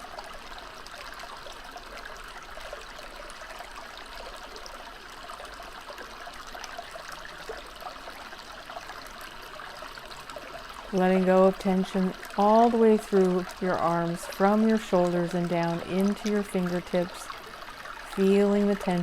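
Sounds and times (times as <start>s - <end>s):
stream trickling and babbling: 0.0s - 19.0s.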